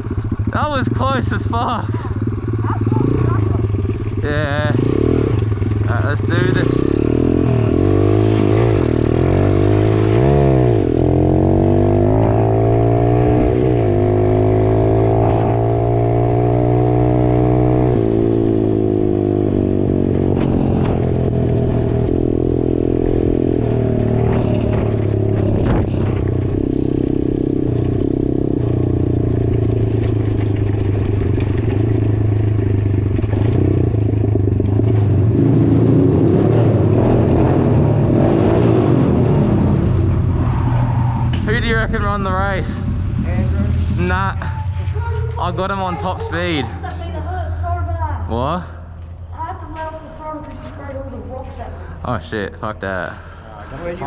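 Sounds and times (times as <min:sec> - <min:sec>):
dirt bike engine at full throttle: 0:00.0 - 0:54.0.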